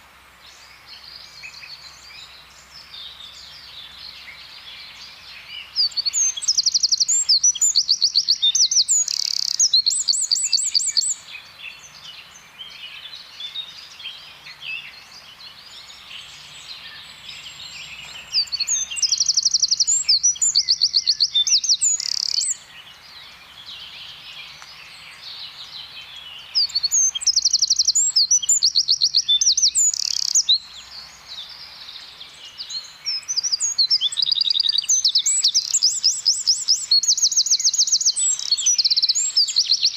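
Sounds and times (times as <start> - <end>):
faint bird chirps: 0.0 - 39.9
wren singing rapid trills: 0.6 - 39.9.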